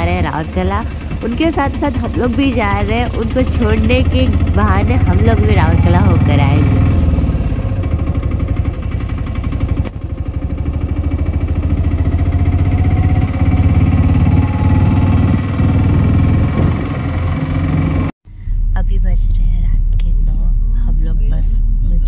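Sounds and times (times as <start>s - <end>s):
small engine running: 0.0s - 18.2s
road noise: 0.0s - 18.7s.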